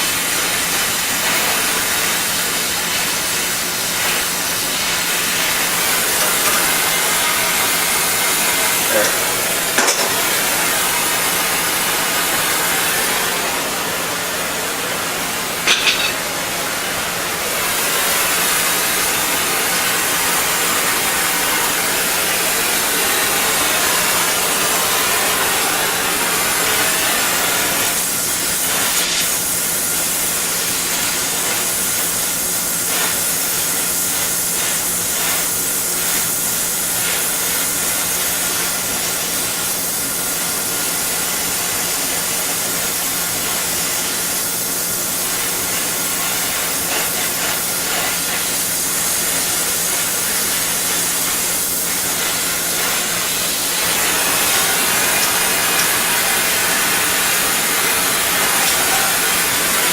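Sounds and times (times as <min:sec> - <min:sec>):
torch hissing: 0:00.0 - 0:59.9.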